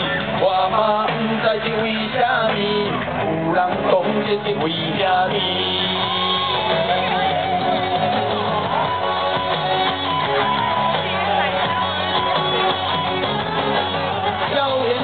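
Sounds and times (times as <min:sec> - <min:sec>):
man singing: 0:00.0 - 0:09.5, 0:11.2 - 0:15.0
live band playing: 0:00.0 - 0:15.0.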